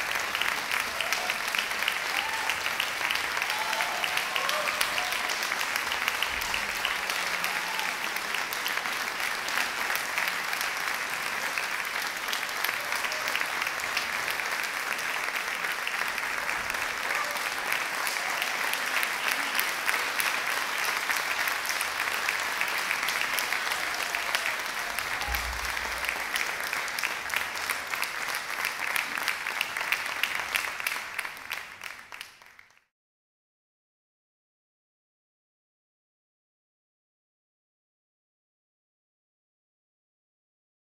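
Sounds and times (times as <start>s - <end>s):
audience applause: 0.0s - 32.9s.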